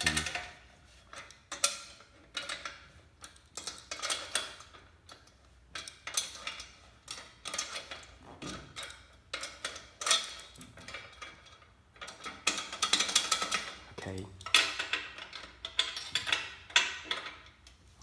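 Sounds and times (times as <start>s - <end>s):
metallic clicking and scraping: 0.0s - 18.0s.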